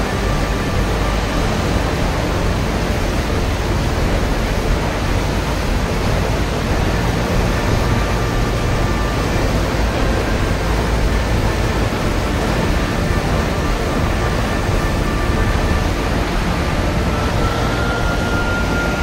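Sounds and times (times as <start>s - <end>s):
rushing water roaring: 0.0s - 19.0s.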